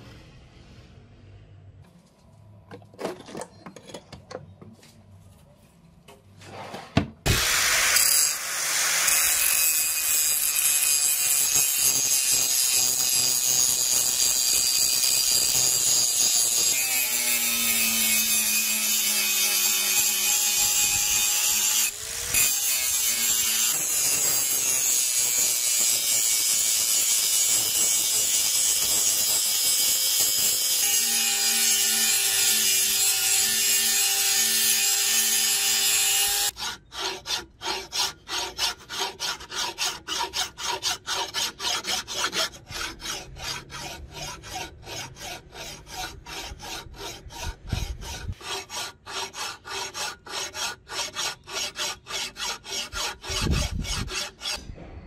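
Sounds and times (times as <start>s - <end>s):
angle grinder grinding metal: 7.3s - 54.6s
hand file rasping on metal: 9.0s - 54.7s.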